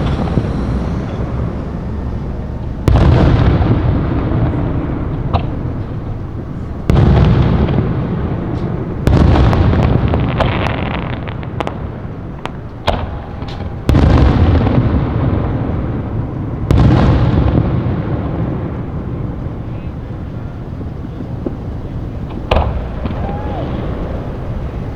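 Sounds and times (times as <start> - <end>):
fireworks booming: 0.0 - 24.9.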